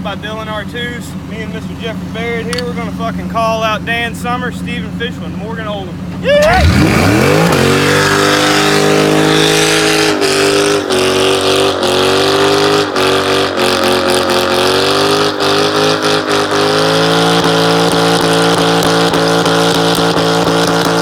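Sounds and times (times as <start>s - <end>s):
car engine revving high: 0.0s - 21.0s.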